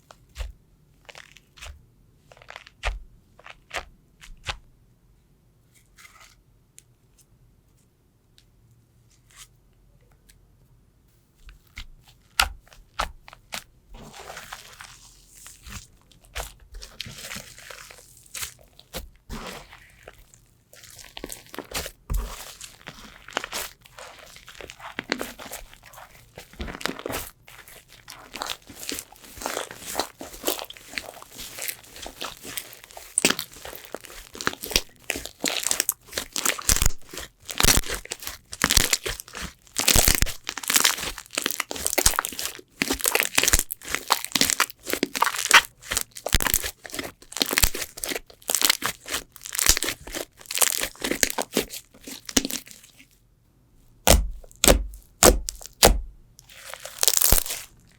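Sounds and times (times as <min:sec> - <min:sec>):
slime crackling and crunching: 0:00.2 - 0:04.6, 0:12.2 - 0:53.1, 0:54.0 - 0:57.9.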